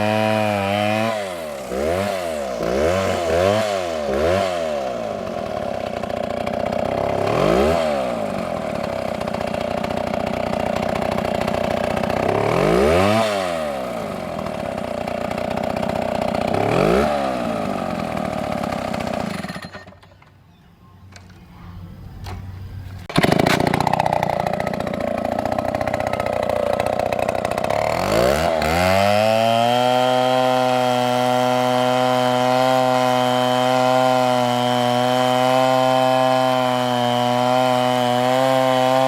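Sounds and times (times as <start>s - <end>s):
chainsaw engine running: 0.0s - 20.3s, 23.0s - 39.0s.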